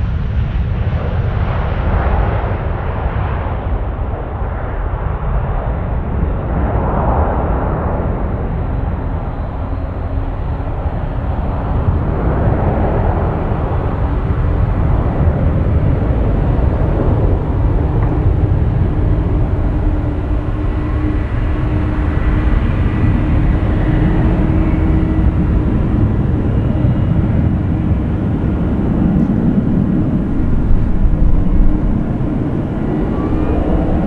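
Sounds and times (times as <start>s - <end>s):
jet engines rumbling: 0.2s - 34.0s
faint steady engine whine: 2.8s - 34.0s.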